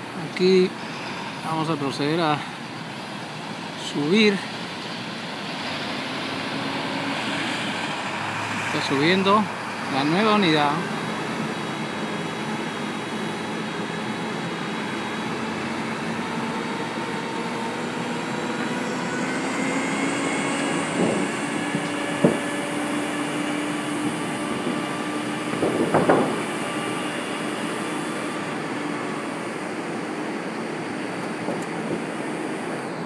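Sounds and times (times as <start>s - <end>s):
crane engine running: 0.0s - 33.0s.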